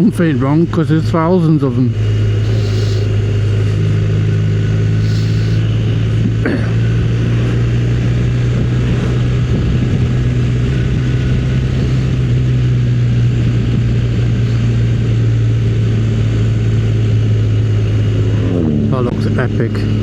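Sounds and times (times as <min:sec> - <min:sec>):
motorcycle engine running: 0:00.0 - 0:20.0
rushing wind: 0:00.0 - 0:20.0.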